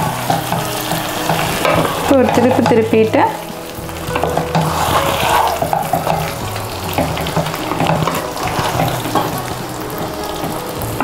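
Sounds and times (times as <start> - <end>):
sauce sizzling and bubbling: 0.0 - 11.0.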